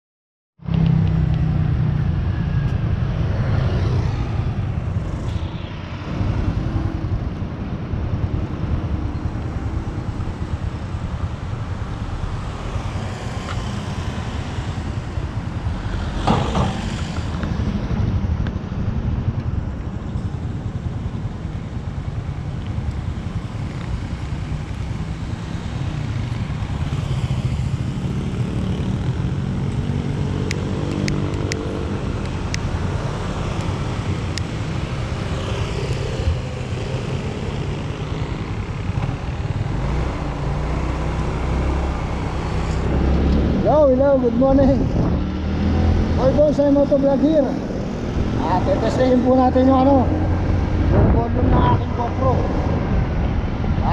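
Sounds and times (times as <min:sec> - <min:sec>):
traffic passing: 0:00.6 - 0:53.9.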